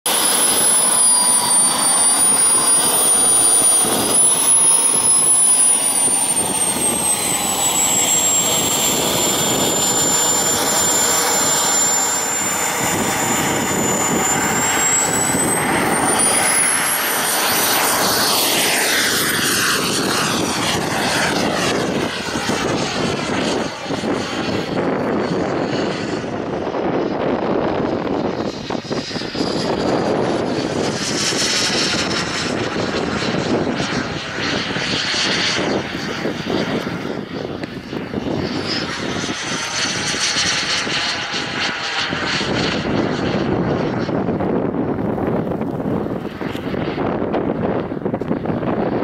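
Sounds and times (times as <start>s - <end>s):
jet turbine high-pitched whistle: 0.0s - 49.0s
jet rushing past: 0.1s - 49.0s.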